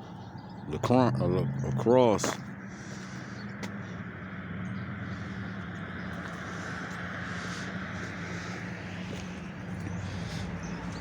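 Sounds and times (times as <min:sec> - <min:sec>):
traffic engine hum: 0:00.0 - 0:11.0
vehicle passing: 0:00.5 - 0:11.0.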